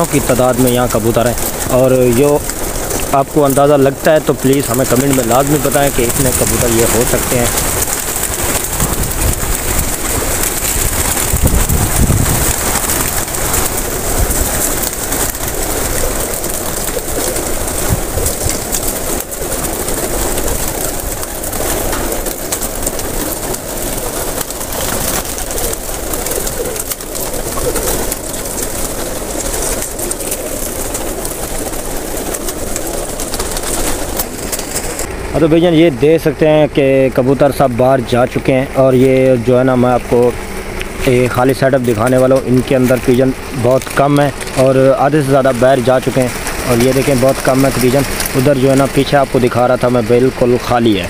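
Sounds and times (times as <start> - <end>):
pigeons cooing: 0.0 - 35.3, 36.9 - 51.0.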